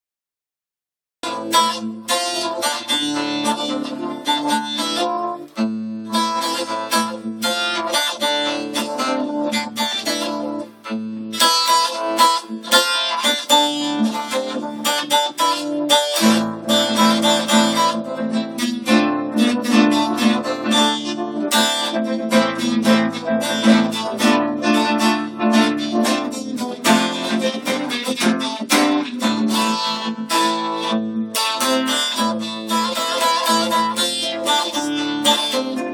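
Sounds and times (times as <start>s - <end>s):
acoustic guitar plucked and strummed: 1.2s - 35.9s.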